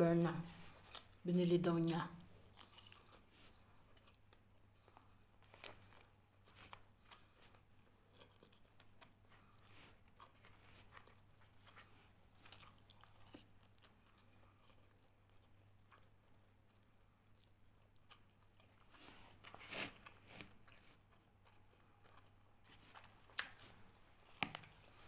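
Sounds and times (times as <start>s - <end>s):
chewing and crunching food: 0.4s - 25.0s.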